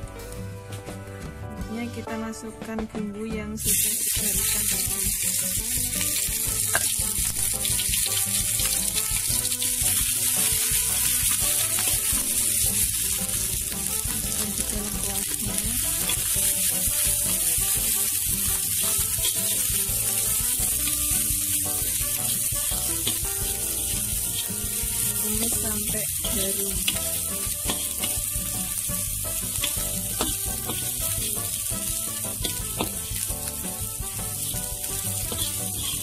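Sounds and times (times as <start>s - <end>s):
paste sizzling in hot oil: 3.6s - 36.0s
metal spatula stirring in wok: 6.2s - 36.0s.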